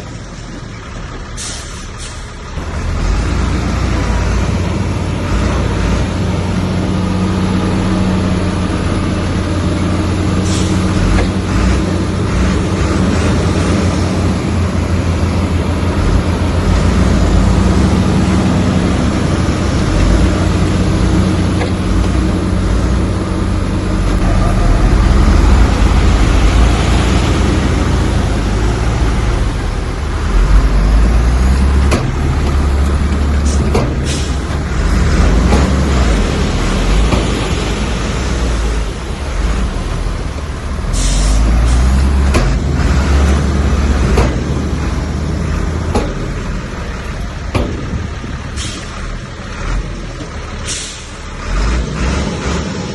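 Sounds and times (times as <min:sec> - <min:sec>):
diesel machinery running: 0:00.0 - 0:52.9.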